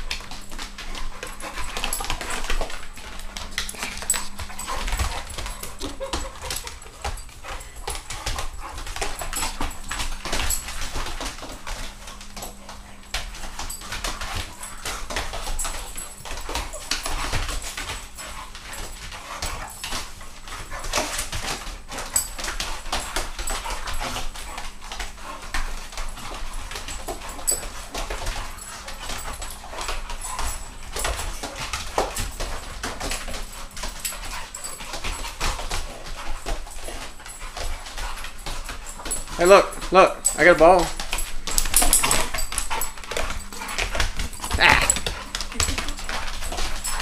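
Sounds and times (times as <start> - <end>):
dogs scuffling: 0.0 - 47.0
dogs whining and yipping: 1.1 - 39.4, 41.2 - 47.0.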